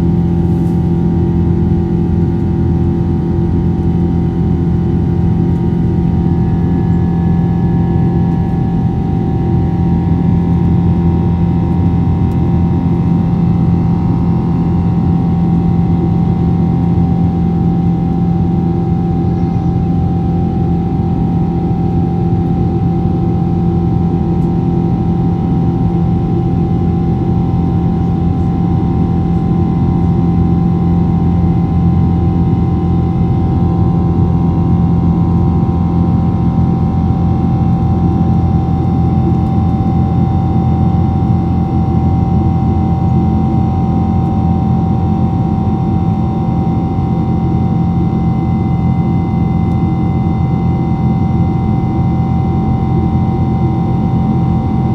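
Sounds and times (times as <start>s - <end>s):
jet engines heard from cabin: 0.0s - 54.9s.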